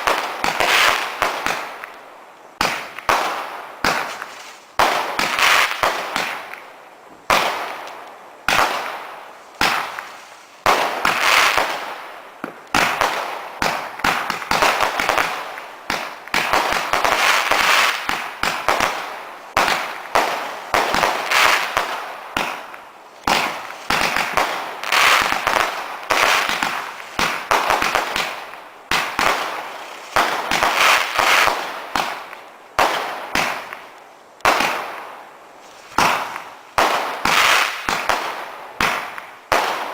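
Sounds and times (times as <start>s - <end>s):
firework bangs: 0.0s - 1.9s, 2.6s - 6.6s, 7.2s - 35.2s, 35.9s - 39.9s
firework crackling bursts: 0.0s - 39.9s.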